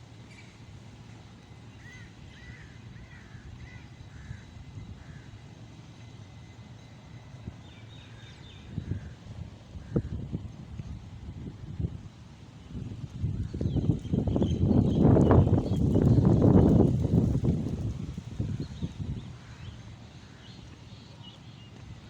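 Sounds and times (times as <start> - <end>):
low rumble of wind: 0.0 - 22.0.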